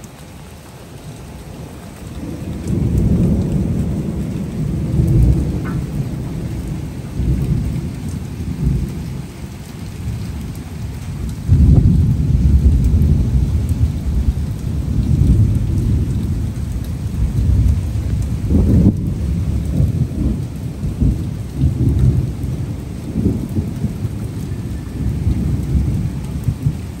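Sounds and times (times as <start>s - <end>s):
heavy rain: 0.0s - 27.0s
thunder rumble: 2.2s - 27.0s.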